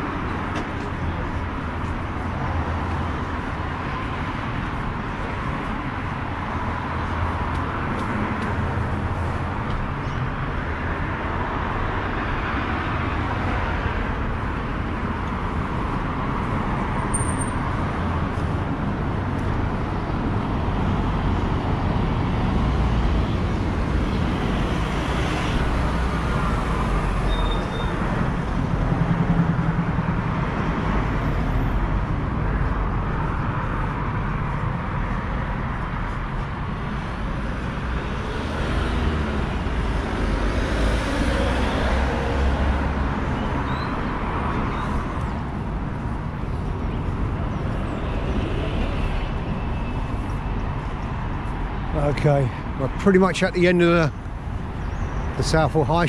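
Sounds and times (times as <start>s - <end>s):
traffic passing: 0.0s - 56.0s.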